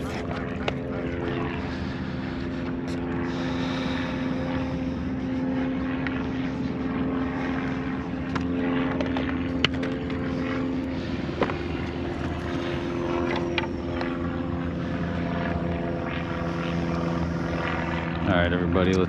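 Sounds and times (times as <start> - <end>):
electric motor droning hum: 0.0 - 19.0.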